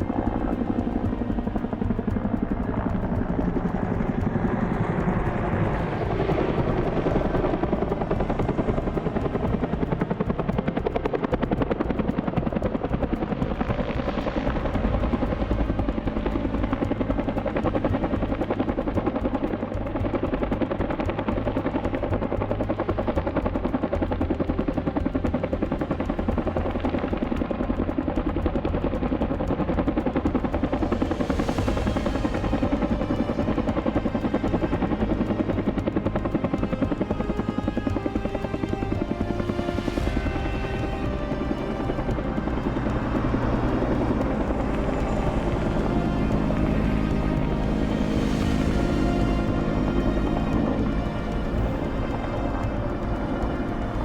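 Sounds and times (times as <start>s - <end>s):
helicopter engine drone: 0.0s - 54.0s
helicopter rotor beating: 0.0s - 54.0s.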